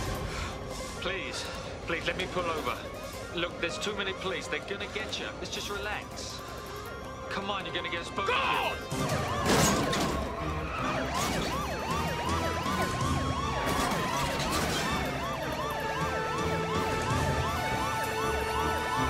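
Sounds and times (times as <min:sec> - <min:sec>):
police sirens yelping: 0:00.0 - 0:19.0.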